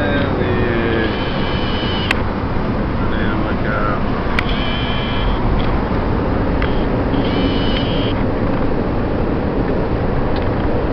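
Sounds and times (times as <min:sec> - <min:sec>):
car road and wind noise: 0:00.0 - 0:10.9.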